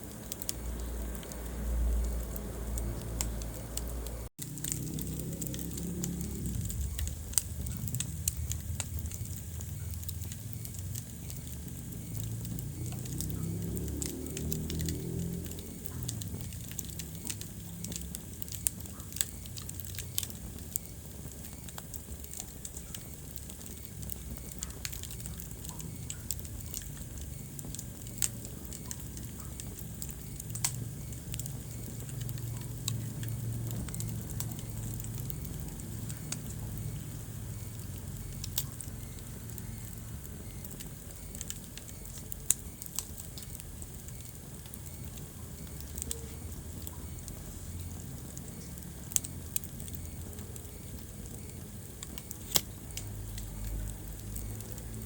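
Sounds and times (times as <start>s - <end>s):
rush of flame: 0.0s - 46.8s
wood fire crackling and popping: 0.0s - 55.0s.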